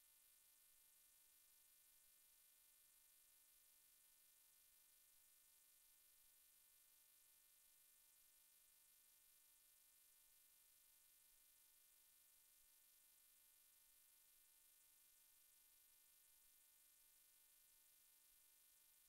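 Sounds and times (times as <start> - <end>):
faint electronic hiss and hum: 0.0 - 19.0.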